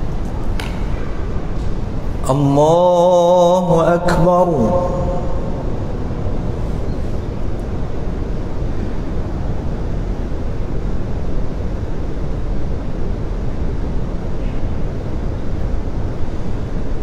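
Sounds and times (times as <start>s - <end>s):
steady low rumbling: 0.0s - 17.0s.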